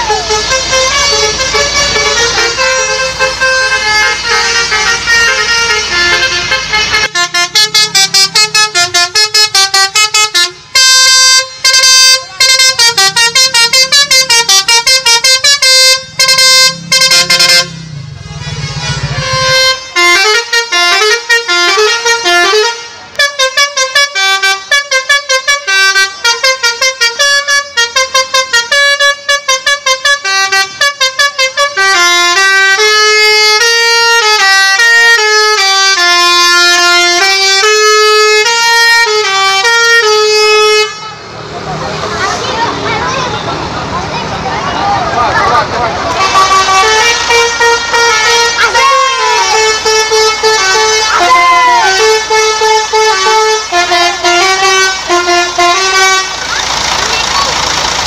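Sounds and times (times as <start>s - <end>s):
musical horn playing fast tunes: 0.0s - 41.3s, 46.0s - 57.2s
engine rumble: 0.0s - 58.0s.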